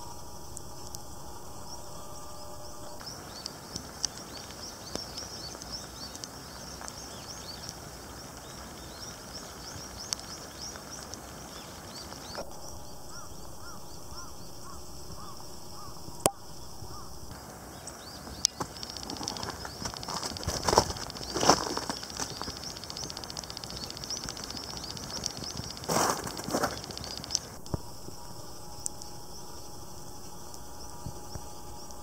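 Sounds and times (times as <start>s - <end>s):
low bird call: 0.0s - 27.7s
small birds chirping: 0.0s - 27.8s.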